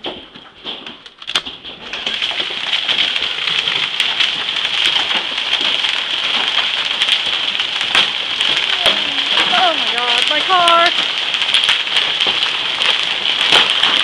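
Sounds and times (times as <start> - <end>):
hail and rain pelting a car: 0.0 - 14.0.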